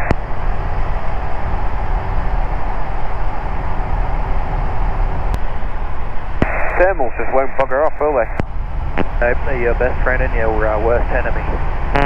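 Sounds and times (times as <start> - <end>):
light aircraft engine and propeller: 0.0 - 12.0
rushing airflow: 0.0 - 12.0.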